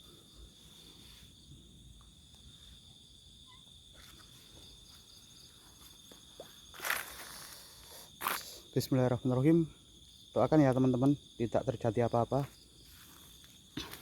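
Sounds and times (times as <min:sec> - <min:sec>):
crickets droning: 0:00.0 - 0:14.0.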